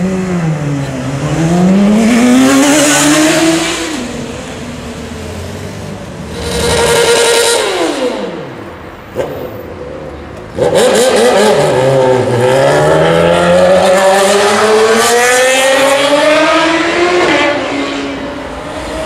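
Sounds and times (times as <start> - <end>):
motorcycle accelerating: 0.0 - 19.0.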